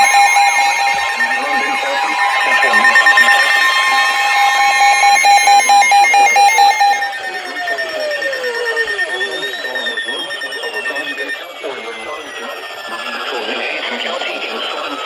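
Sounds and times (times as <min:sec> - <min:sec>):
alarm attention tones: 0:00.0 - 0:14.9.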